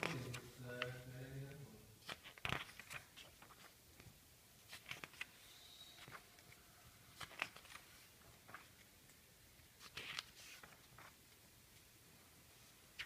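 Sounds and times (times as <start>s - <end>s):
magazine pages turning: 0.0s - 1.0s, 2.0s - 11.9s.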